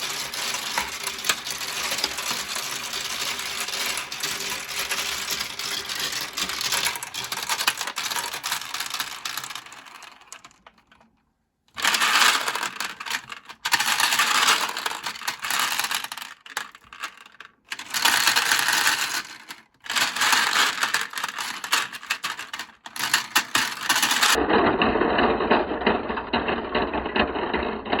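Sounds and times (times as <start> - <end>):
marbles rattling down plastic slope: 0.0 - 11.0, 11.7 - 28.0.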